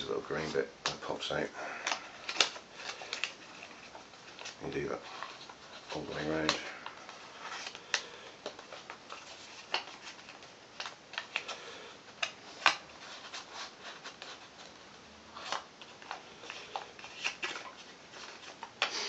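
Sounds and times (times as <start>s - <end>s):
paper crinkling and crackling: 0.1s - 18.9s.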